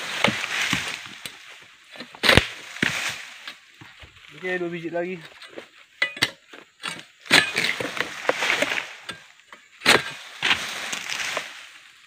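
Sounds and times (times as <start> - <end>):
fronds crackling and rustling: 0.0 - 5.9, 7.2 - 12.0.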